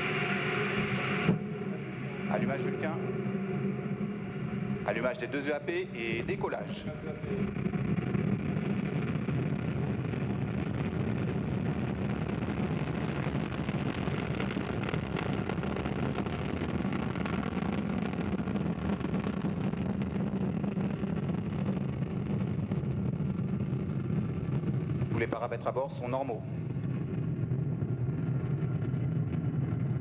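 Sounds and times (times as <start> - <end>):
rocket engine roaring: 0.0 - 30.0.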